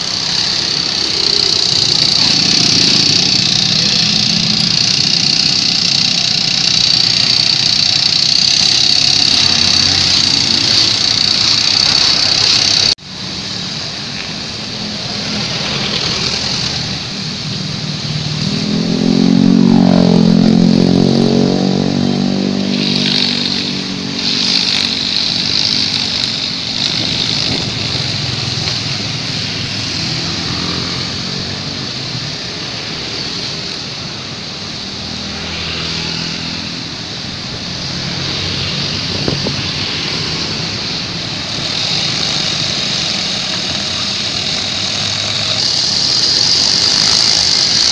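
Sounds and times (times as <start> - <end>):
nylon line whining through grass: 0.0 - 47.9
string trimmer engines running: 0.0 - 47.9.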